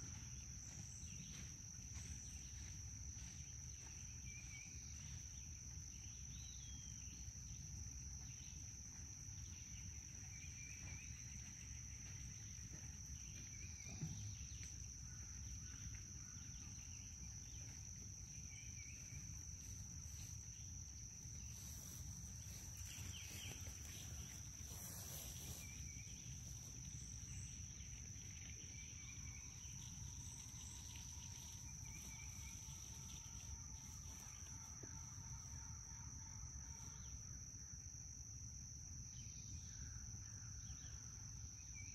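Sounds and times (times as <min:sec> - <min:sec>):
high-pitched insect drone: 0:00.0 - 0:37.4.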